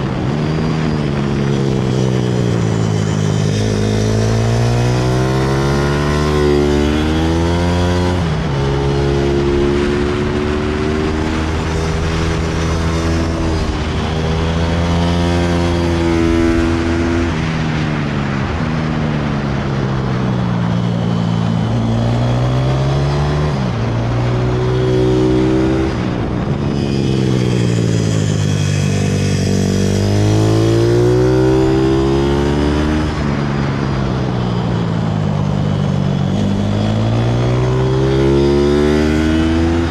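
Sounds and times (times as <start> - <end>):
pit bike engine revving: 0.0 - 17.6, 21.4 - 33.4, 36.1 - 39.9.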